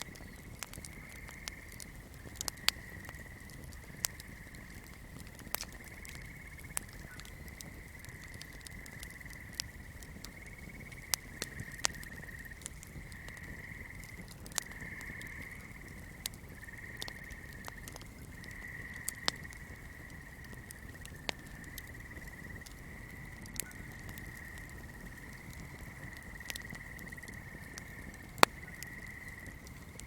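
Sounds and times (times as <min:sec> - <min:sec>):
small fire crackling: 0:00.0 - 0:30.0.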